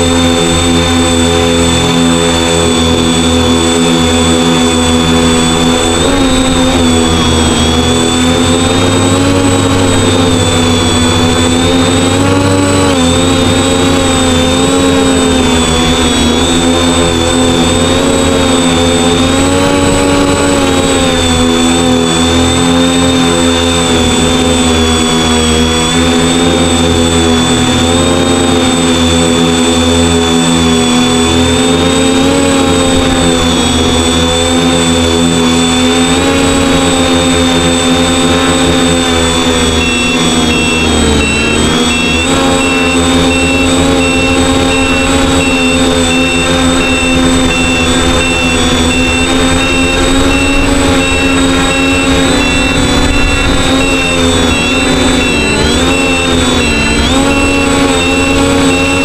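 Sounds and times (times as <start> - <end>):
quadcopter motors buzzing whine: 0.0 - 59.0.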